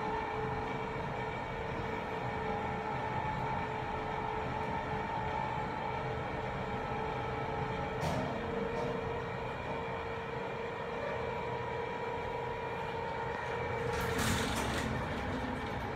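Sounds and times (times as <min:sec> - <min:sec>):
elevator hum: 0:00.0 - 0:15.9.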